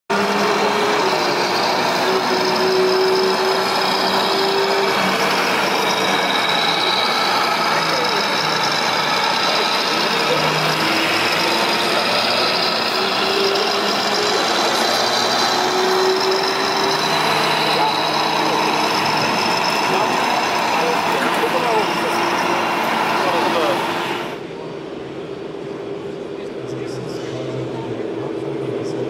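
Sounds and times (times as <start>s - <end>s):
model truck motor running: 0.1s - 24.4s
crowd murmur in a hall: 0.4s - 29.0s.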